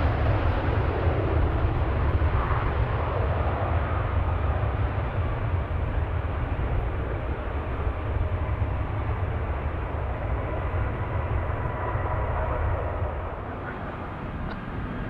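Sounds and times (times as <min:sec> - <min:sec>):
aircraft engines rumbling: 0:00.0 - 0:15.0.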